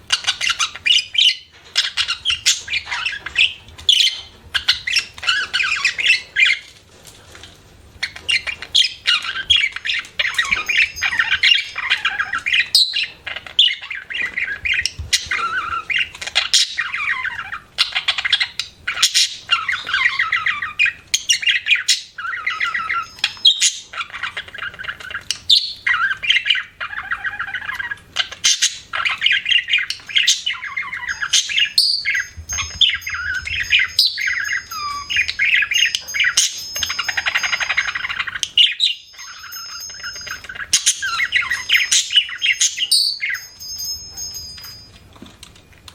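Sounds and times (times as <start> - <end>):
budgerigar chirping and chattering: 0.1 - 6.6, 8.0 - 43.6.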